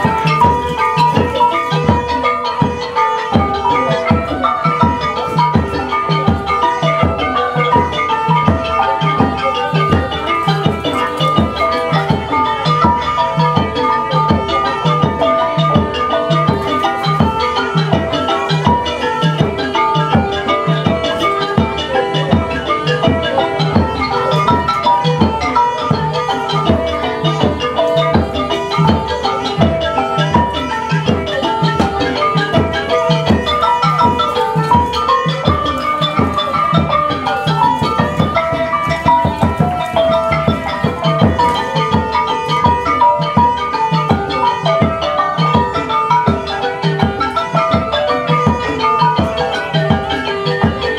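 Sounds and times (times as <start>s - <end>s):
melody on tuned percussion: 0.0s - 50.9s
steady drum beats: 0.0s - 50.9s.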